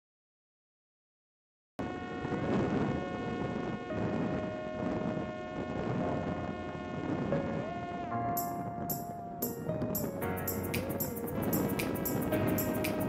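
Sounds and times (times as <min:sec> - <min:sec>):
wind noise on microphone: 0:01.8 - 0:13.0.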